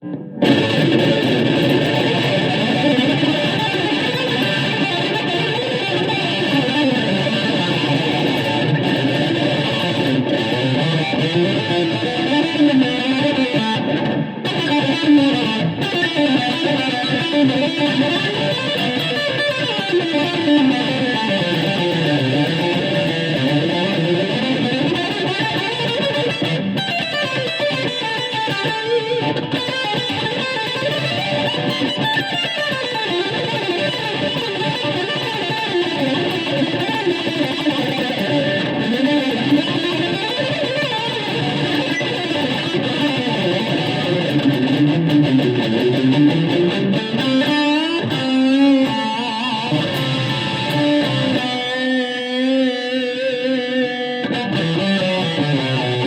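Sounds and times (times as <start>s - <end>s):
fast electric guitar runs: 0.4s - 52.1s.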